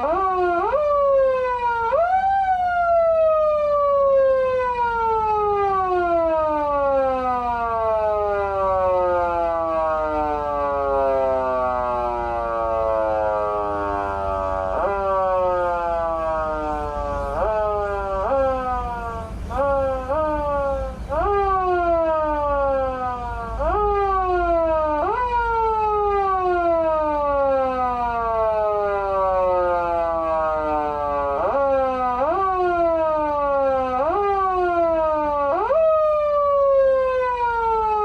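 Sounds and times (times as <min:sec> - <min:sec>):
wind-up siren wail: 0:00.0 - 0:38.0.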